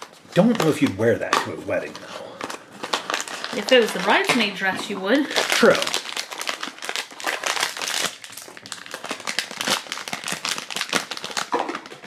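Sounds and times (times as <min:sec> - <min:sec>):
foil bag crinkling: 0:00.0 - 0:12.0.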